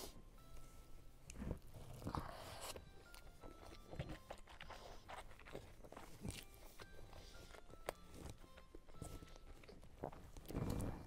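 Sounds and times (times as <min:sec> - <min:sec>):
chewing noodles: 0:01.3 - 0:11.0.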